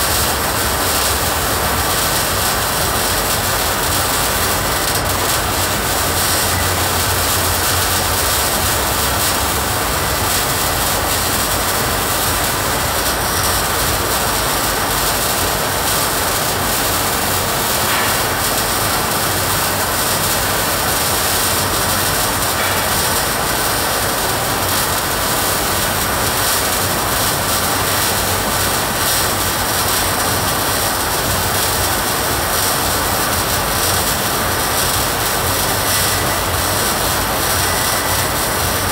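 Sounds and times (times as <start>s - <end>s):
welding noise: 0.0s - 38.9s.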